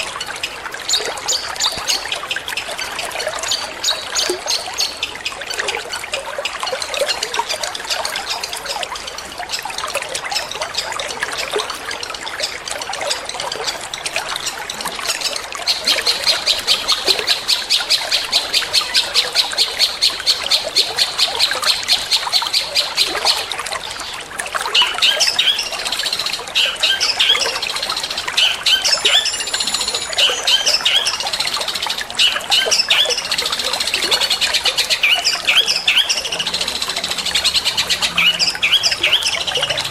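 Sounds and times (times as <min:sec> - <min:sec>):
bird song: 0:00.0 - 0:39.9
water trickling: 0:00.0 - 0:39.9.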